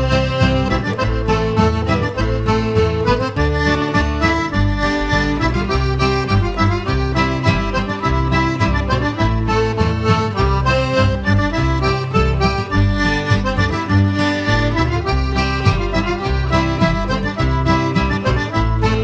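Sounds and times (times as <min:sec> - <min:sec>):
accordion jig with bass: 0:00.0 - 0:19.0.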